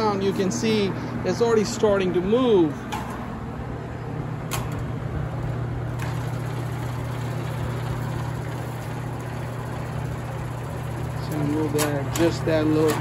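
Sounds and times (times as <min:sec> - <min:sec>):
box fan motor hum: 0:00.0 - 0:13.0.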